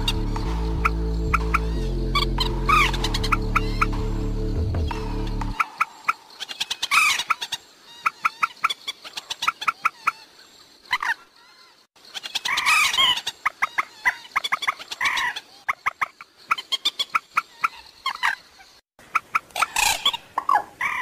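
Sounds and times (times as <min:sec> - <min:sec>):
moorhen clucking and cackling: 0:00.0 - 0:04.0, 0:05.5 - 0:21.0.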